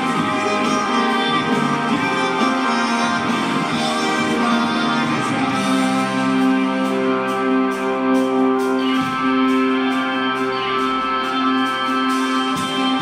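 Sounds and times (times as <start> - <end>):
guitar and keyboard chords: 0.0 - 13.0
rock band playing instrumental: 0.0 - 13.0.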